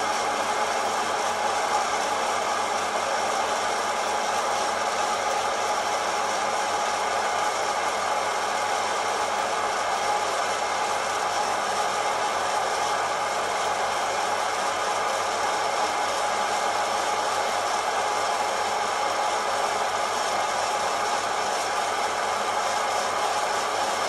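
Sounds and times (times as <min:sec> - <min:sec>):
coffee roaster fan whoosh: 0:00.0 - 0:24.0.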